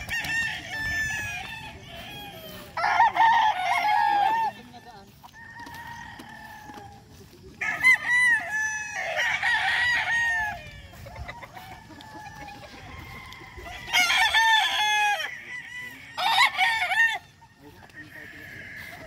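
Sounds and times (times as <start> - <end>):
roosters crowing: 0.0 - 19.0.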